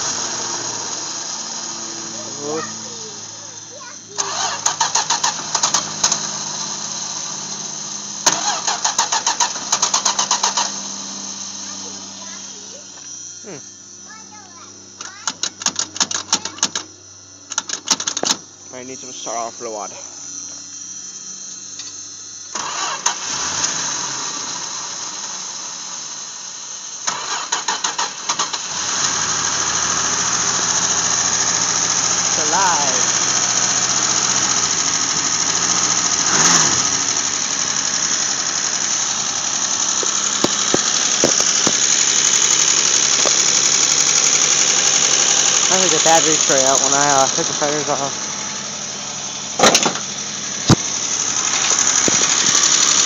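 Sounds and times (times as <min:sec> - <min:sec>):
engine cranking by starter: 0:00.0 - 0:13.6, 0:14.2 - 0:20.1, 0:21.7 - 0:53.0.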